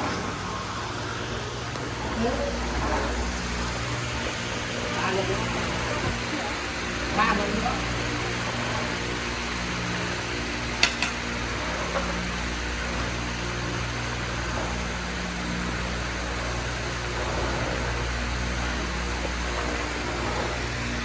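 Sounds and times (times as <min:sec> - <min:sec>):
low mechanical hum with hiss: 0:00.0 - 0:21.0.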